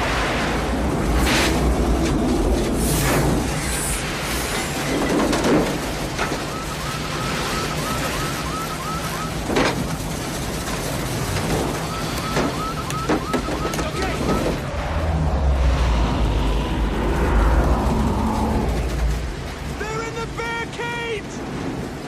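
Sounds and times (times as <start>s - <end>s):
vehicle noise: 0.0s - 22.0s
wind roaring: 0.0s - 22.0s.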